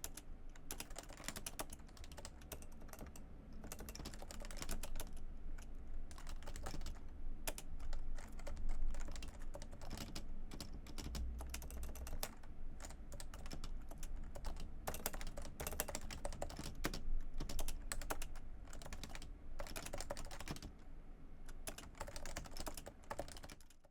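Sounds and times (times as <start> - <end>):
keyboard typing: 0.0 - 5.2, 6.1 - 20.7, 21.6 - 23.9.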